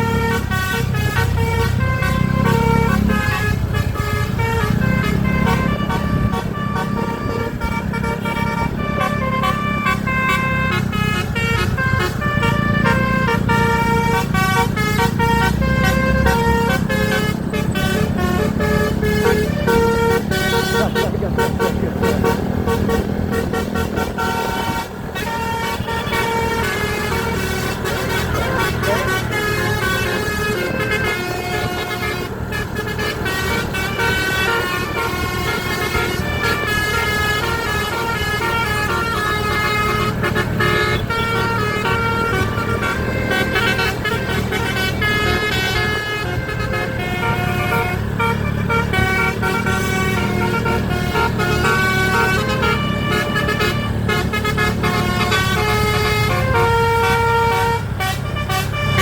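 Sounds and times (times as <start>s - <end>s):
multi-tone bus horn tune: 0.0s - 59.0s.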